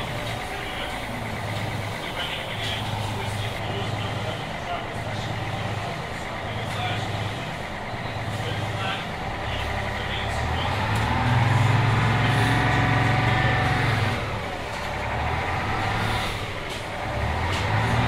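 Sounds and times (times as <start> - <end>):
bus diesel engine revving: 0.0 - 18.0.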